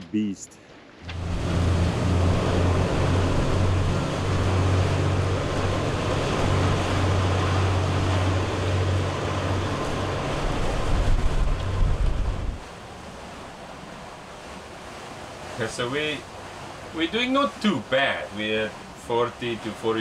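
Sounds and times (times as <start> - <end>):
wake water rushing: 0.0 - 20.0
ferry engine drone: 1.0 - 20.0.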